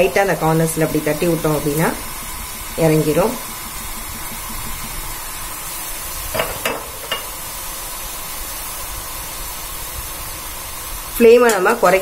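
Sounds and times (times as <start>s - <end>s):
batter deep-frying in hot oil: 0.0s - 12.0s.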